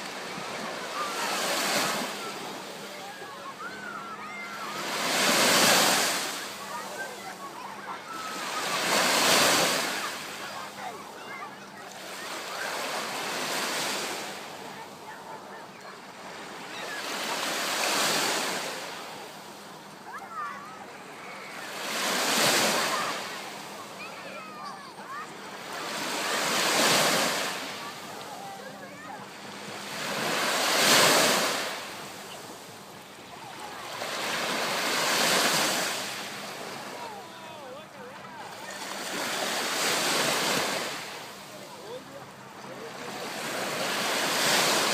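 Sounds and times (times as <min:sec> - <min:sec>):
waves washing in: 0:00.0 - 0:44.9.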